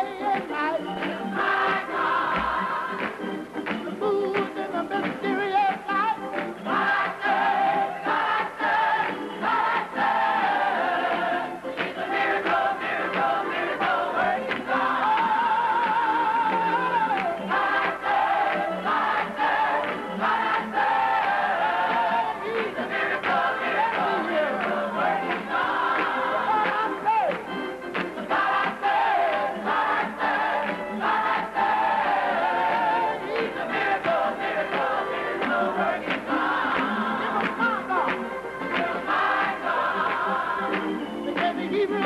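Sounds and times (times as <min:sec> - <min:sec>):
gospel choir singing: 0:00.0 - 0:42.0
hand-clapping: 0:00.0 - 0:42.0.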